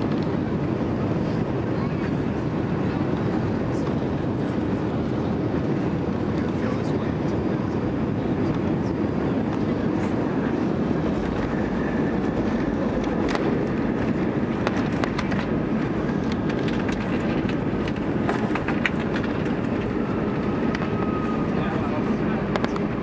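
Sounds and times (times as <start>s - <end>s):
engine and airflow rumble: 0.0s - 23.0s.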